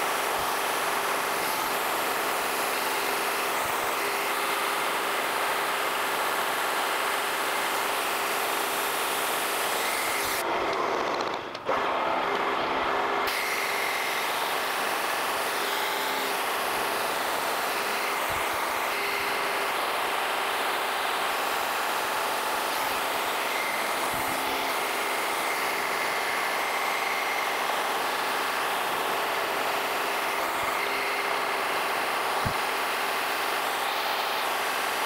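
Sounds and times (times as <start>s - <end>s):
coolant mist sprayer hiss: 0.0s - 10.4s, 13.3s - 35.0s
milling machine cutting metal: 0.0s - 35.0s.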